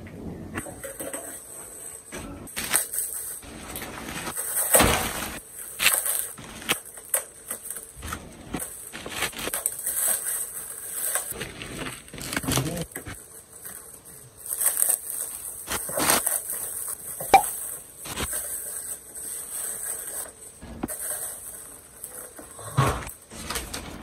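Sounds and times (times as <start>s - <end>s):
plastic wrap crinkling: 0.8s - 24.0s.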